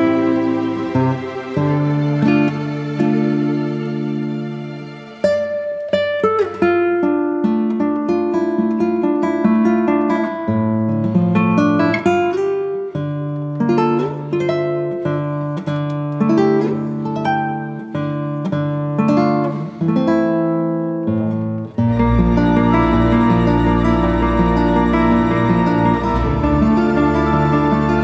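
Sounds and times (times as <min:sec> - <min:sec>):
plucked string melody: 0:00.0 - 0:28.0.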